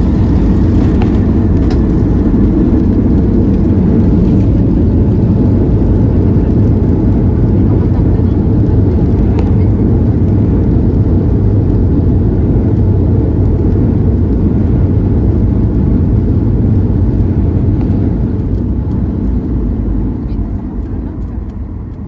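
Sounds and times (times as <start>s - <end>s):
airliner landing rumble: 0.0s - 22.0s.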